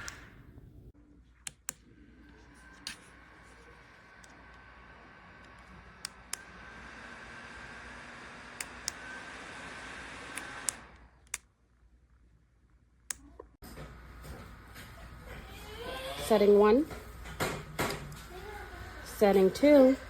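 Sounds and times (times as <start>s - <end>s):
small fan whirring: 0.0s - 11.6s, 13.1s - 20.0s.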